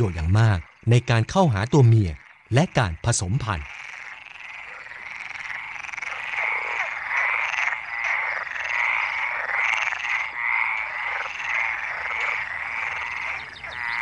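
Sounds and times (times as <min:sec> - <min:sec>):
frogs croaking chorus: 0:00.0 - 0:14.0.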